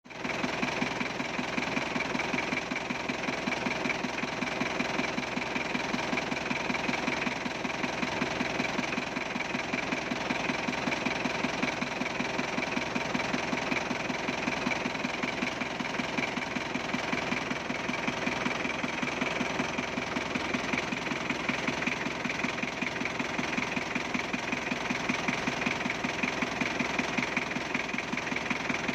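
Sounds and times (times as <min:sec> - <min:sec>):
diesel engine idling: 0:00.1 - 0:28.9.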